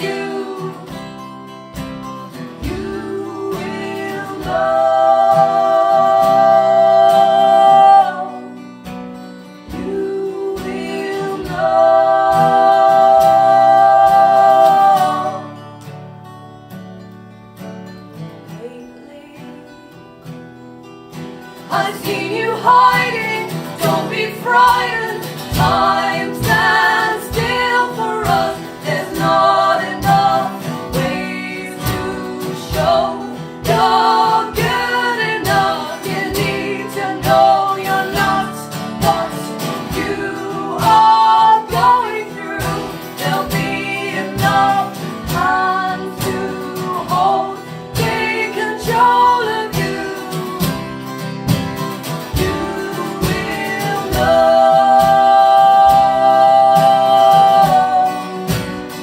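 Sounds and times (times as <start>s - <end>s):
women singing: 0.0s - 16.0s, 18.4s - 20.0s, 21.2s - 59.0s
acoustic guitars strummed: 0.0s - 59.0s.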